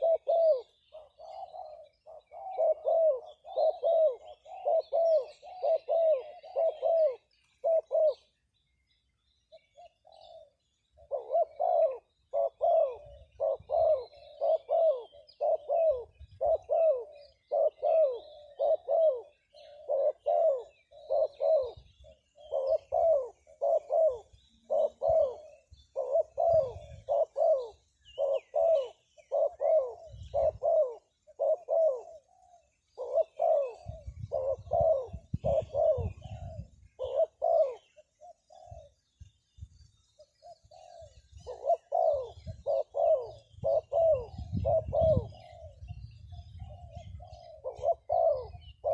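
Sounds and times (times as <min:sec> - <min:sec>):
bird hooting calls: 0:00.0 - 0:39.4, 0:40.0 - 0:48.9
faint bird chirps: 0:00.0 - 0:48.9.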